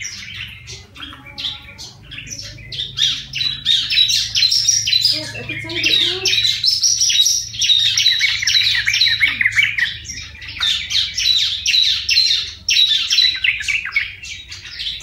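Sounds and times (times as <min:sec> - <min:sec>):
bulbul singing: 0:00.0 - 0:15.0.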